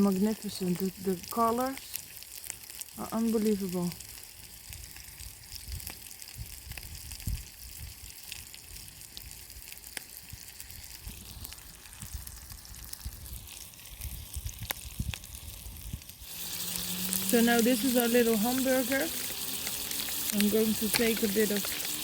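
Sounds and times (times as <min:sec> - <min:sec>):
patties sizzling in a frying pan: 0:00.0 - 0:22.0.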